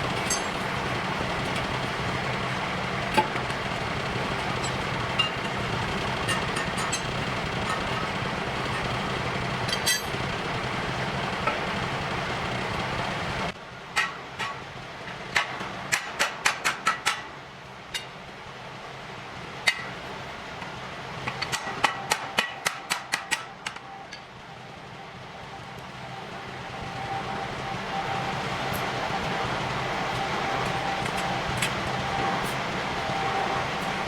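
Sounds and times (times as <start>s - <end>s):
machine running with low hum: 0.0s - 13.6s, 18.3s - 34.0s.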